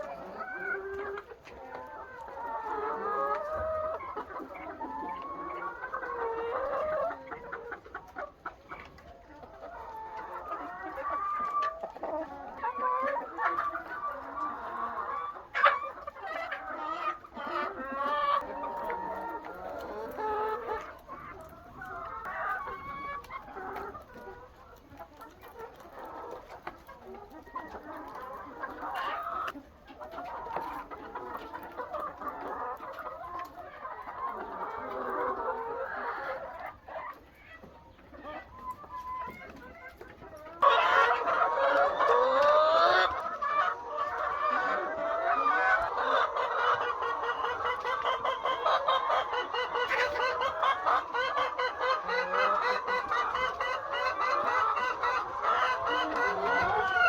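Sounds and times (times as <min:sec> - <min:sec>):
hens clucking: 0:00.0 - 0:57.0.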